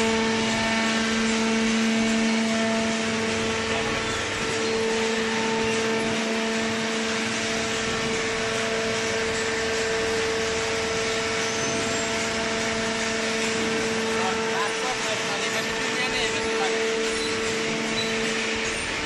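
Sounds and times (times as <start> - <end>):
hydraulic pump motor humming: 0.0 - 19.0.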